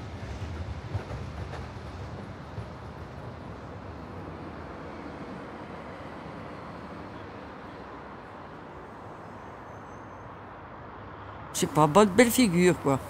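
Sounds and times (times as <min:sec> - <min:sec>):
distant rumble of vehicles: 0:00.0 - 0:13.0.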